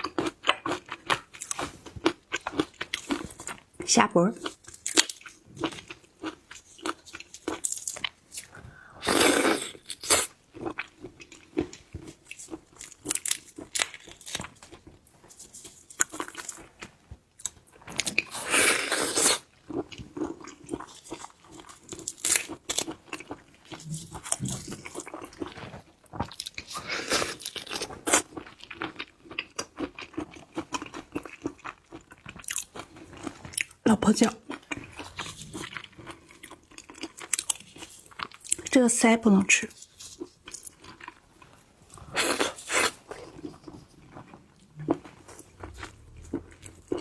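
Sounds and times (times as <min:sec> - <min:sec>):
chewing shellfish crunches: 0:00.0 - 0:38.8, 0:39.7 - 0:47.0.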